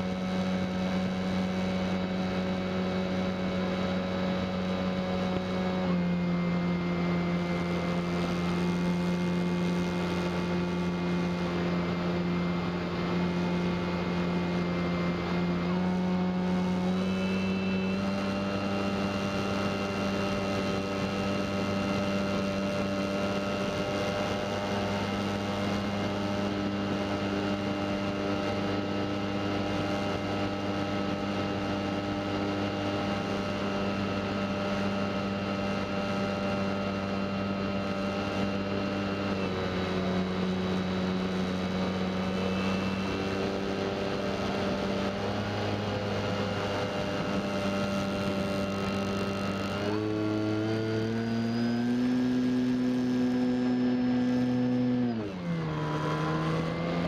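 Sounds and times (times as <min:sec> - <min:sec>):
model plane motor droning: 0:00.0 - 0:57.0.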